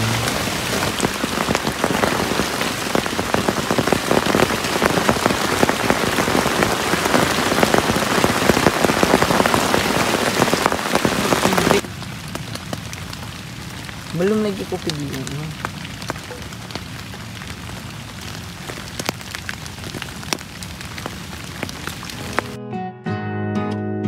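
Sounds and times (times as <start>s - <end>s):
heavy rain on tent fabric: 0.0s - 22.6s.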